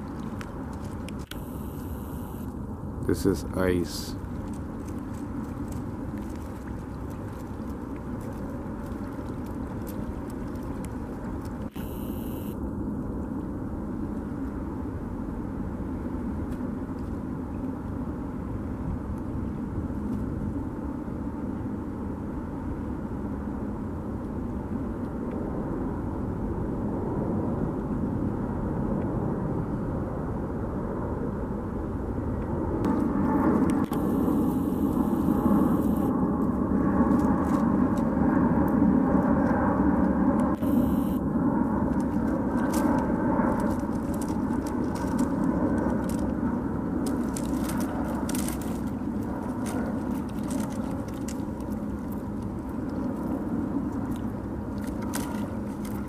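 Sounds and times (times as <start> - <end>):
low outdoor rumble: 0.0 - 56.0.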